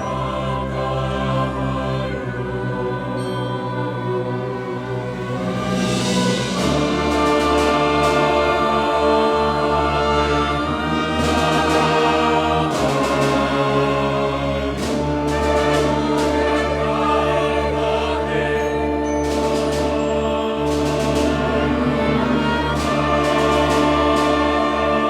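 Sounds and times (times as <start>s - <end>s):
orchestra and choir performing: 0.0s - 25.0s.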